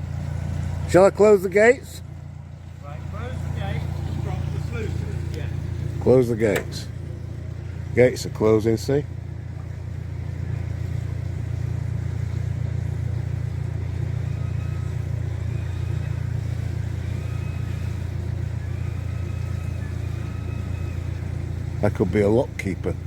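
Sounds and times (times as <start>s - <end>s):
hydraulic machinery hum: 0.0s - 23.0s.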